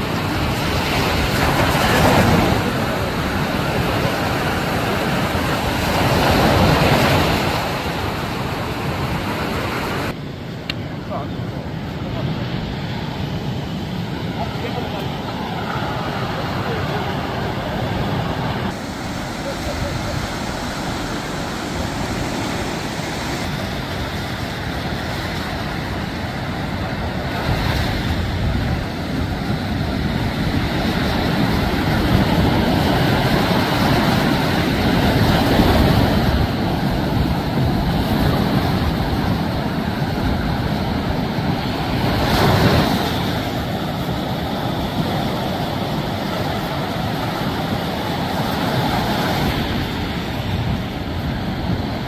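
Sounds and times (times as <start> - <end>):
ocean surf breaking: 0.0 - 52.0.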